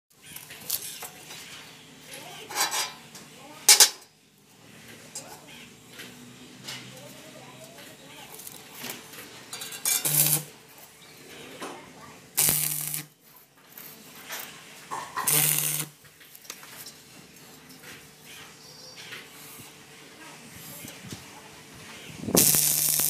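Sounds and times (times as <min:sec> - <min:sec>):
arc welding crackling: 0:00.1 - 0:06.2, 0:06.9 - 0:11.3, 0:12.2 - 0:18.4, 0:20.5 - 0:23.0
low welder hum: 0:00.2 - 0:23.0.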